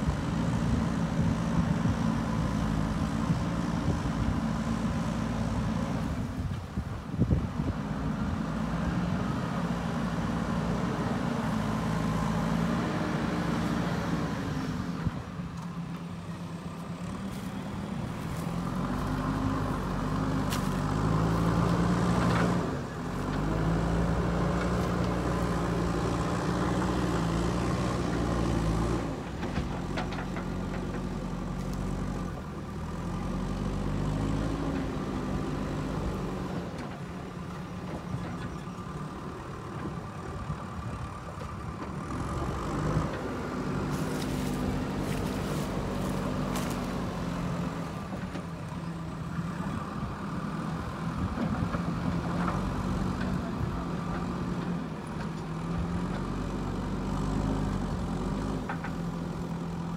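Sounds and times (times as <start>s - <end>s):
diesel engine revving under load: 0.0s - 59.9s.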